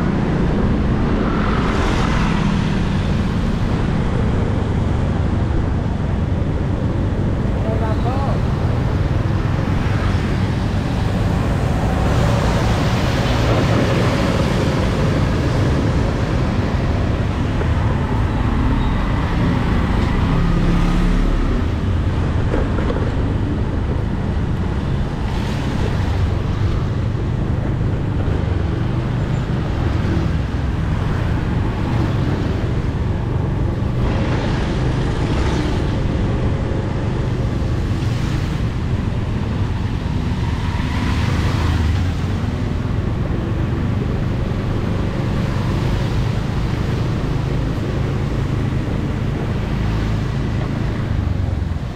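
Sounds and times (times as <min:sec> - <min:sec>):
street traffic: 0:00.0 - 0:51.9
vehicles passing: 0:00.0 - 0:51.9.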